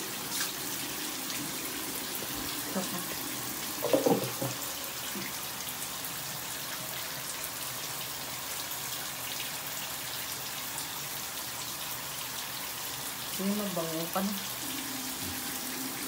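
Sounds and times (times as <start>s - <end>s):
shower water splashing: 0.0s - 16.0s.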